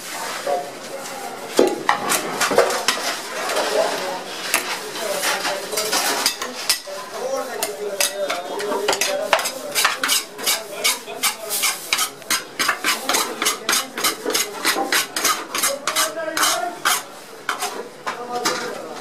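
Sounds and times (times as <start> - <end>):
metal spatula scraping pan: 1.9 - 17.9.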